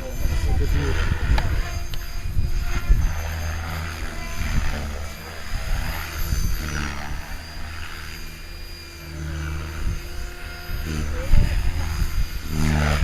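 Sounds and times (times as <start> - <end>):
helicopter motor whine: 0.0 - 13.0
rotor blades whooshing: 0.0 - 13.0.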